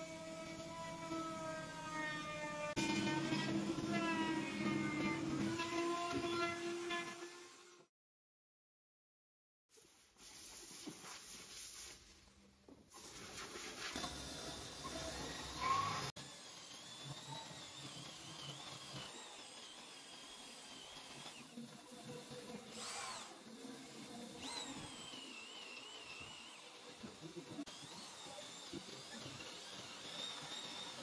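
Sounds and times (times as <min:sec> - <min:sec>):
power tool motor whining: 0:00.0 - 0:07.8, 0:14.0 - 0:31.0.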